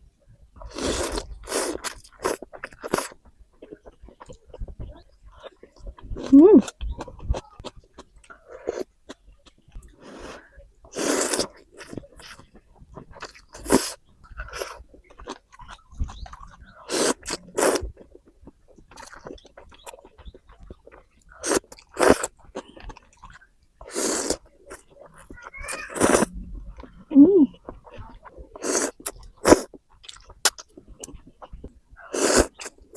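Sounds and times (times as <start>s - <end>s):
wet chewing and biting: 0.6s - 10.0s, 10.9s - 32.9s.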